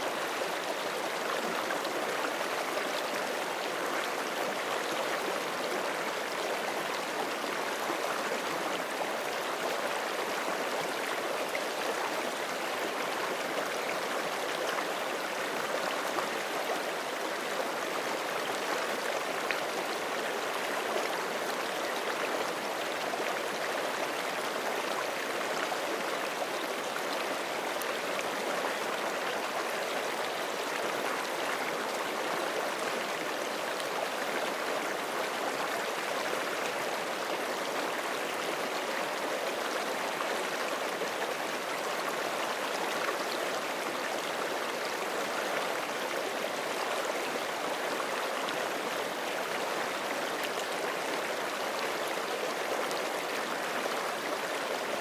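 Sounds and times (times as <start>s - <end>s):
creek water babbling: 0.0s - 55.0s.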